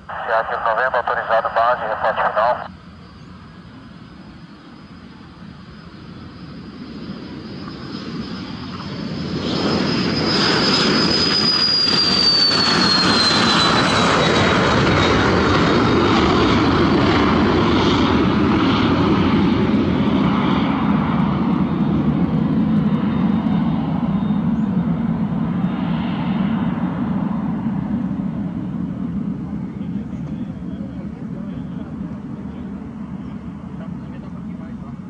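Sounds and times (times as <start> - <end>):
high jet whine: 0.0 - 35.0
jet engine roar: 0.0 - 35.0.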